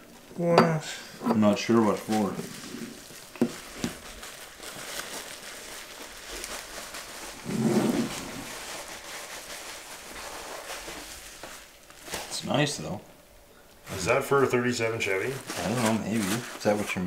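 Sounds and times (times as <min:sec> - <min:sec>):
packaging rustling: 0:01.6 - 0:13.0, 0:13.9 - 0:17.0.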